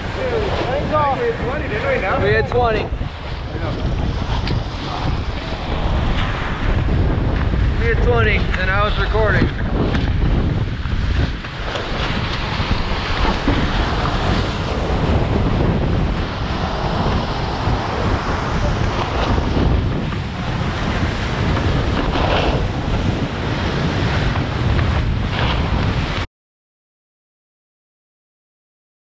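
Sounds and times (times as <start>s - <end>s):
hull rushing through water: 0.0s - 26.3s
wind buffeting microphone: 0.0s - 26.3s.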